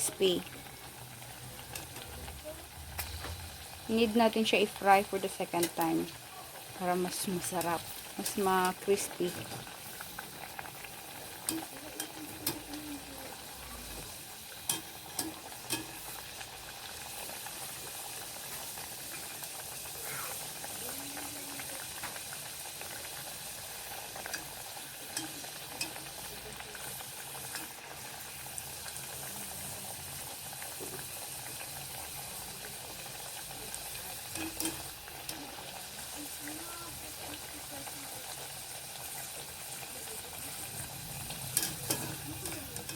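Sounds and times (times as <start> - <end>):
food sizzling in frying oil: 0.0 - 42.9.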